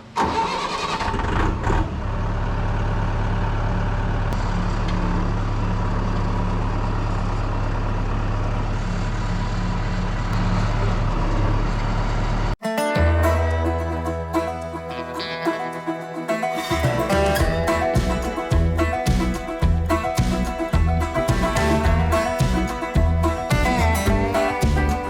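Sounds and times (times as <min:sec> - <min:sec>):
tractor engine running: 0:00.3 - 0:12.6, 0:16.6 - 0:25.0.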